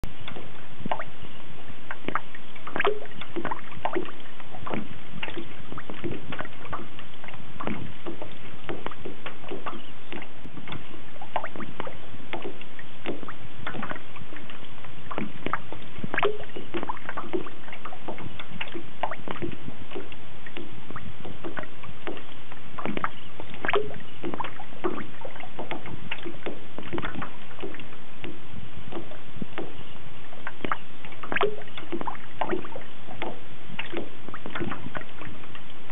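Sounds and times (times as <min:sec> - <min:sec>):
water slapping metal hull: 0:00.0 - 0:35.9.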